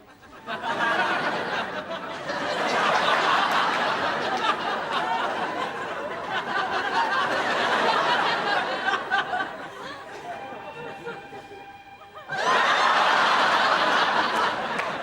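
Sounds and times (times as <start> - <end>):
studio audience laughing: 0.0 - 15.0.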